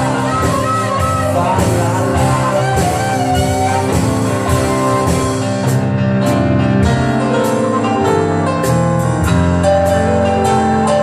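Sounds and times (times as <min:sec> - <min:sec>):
drum and cymbal hits: 0:00.0 - 0:10.6
live band playing blues: 0:00.0 - 0:11.0.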